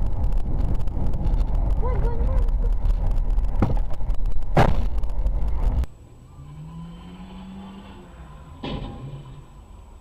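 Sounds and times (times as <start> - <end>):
car road rumble: 0.0 - 10.0.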